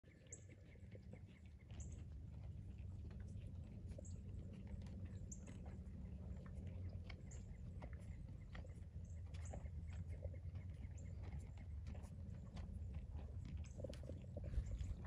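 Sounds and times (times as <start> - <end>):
horses chewing feed: 0.0 - 15.0
low steady rumble: 0.1 - 15.0.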